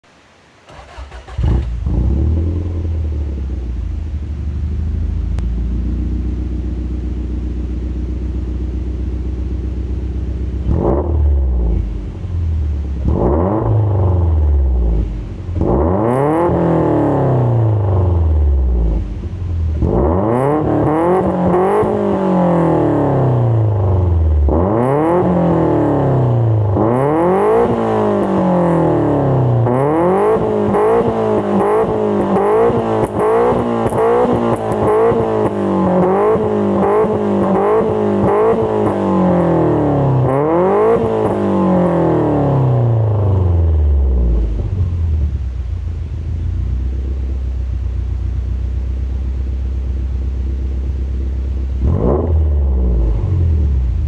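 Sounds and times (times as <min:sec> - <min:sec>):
car engine idling and revving: 0:00.7 - 0:54.0.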